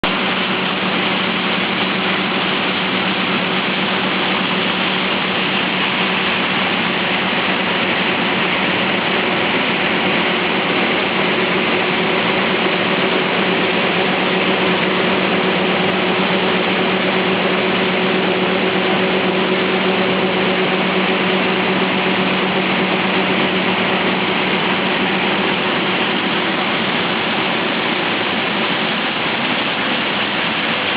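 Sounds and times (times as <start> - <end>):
heavy engine running steadily: 0.0 - 30.9
hiss of machine noise: 0.1 - 30.9.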